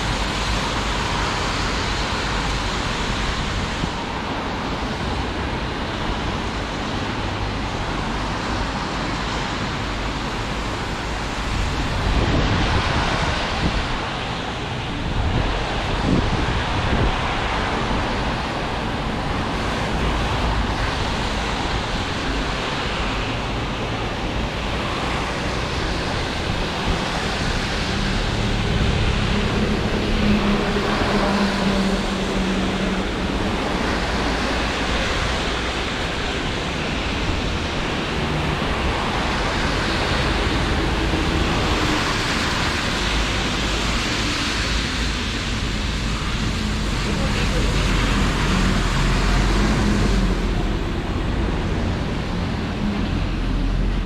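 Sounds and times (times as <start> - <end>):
passing vehicle hum: 0.0 - 54.0
road traffic: 0.0 - 54.0
steady rain hiss: 0.0 - 54.0.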